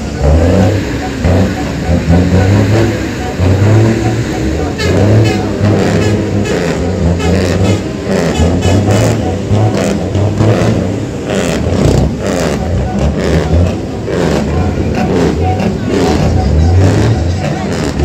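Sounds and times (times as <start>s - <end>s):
distorted bass-heavy music: 0.0s - 18.0s.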